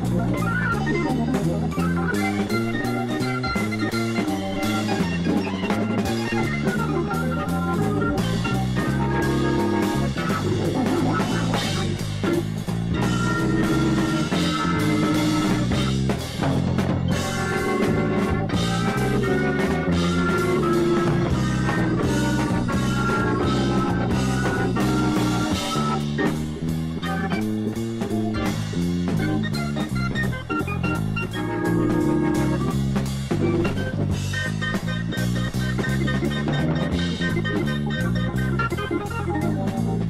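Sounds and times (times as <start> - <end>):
drum kit playing: 0.0 - 40.0
electric guitar: 0.0 - 40.0.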